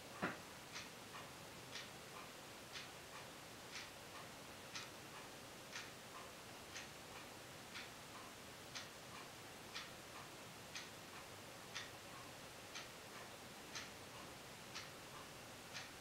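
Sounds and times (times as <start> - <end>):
clock ticking: 0.1 - 16.0.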